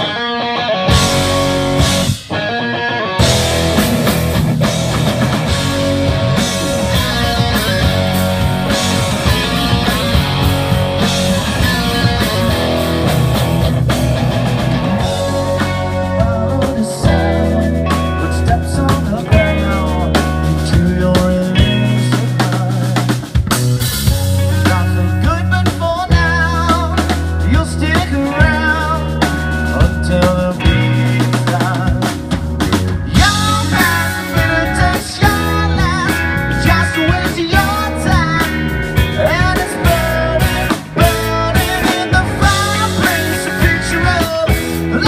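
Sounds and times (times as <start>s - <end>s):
live rock band: 0.0s - 45.0s.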